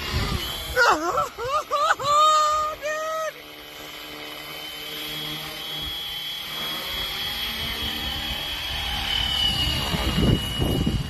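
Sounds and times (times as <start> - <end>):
rc helicopter motor whine: 0.0 - 11.0
rotor noise: 0.0 - 11.0.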